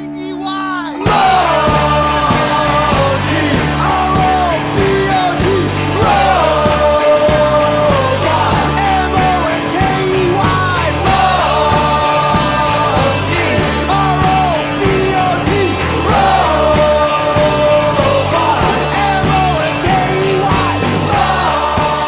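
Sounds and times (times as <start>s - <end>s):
person singing: 0.0s - 22.0s
rock band backing: 0.0s - 22.0s.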